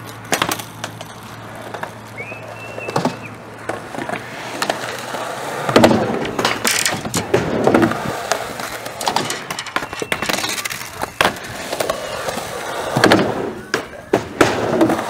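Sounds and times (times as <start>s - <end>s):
skateboards clacking on ground: 0.0s - 15.0s
skateboards rolling on concrete: 0.0s - 15.0s.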